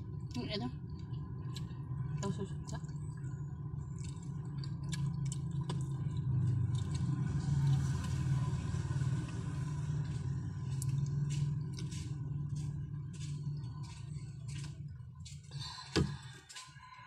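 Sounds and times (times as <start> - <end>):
steady low rumble: 0.0 - 16.6.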